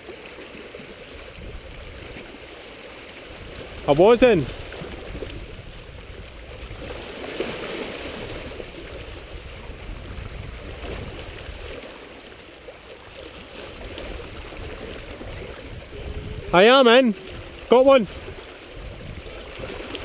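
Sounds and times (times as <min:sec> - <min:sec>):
waves lapping against rocks: 0:00.0 - 0:20.0.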